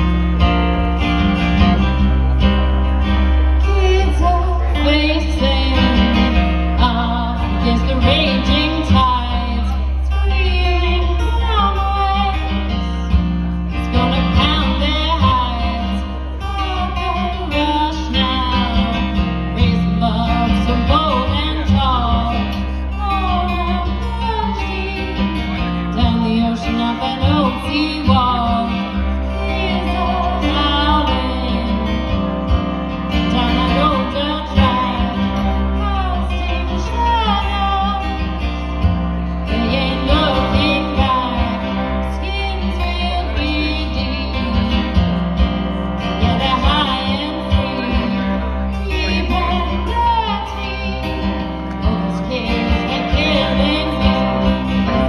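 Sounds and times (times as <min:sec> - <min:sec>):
strummed acoustic guitar: 0:00.0 - 0:55.0
woman singing: 0:03.0 - 0:55.0.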